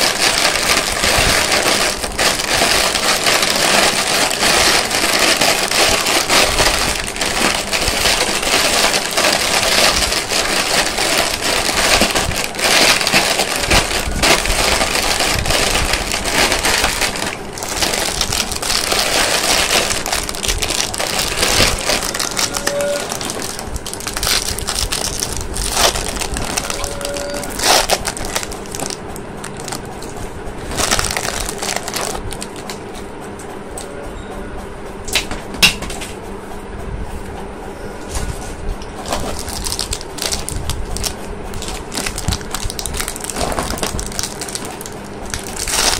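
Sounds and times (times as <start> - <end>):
candy wrappers crinkling: 0.0 - 32.8, 39.0 - 45.9.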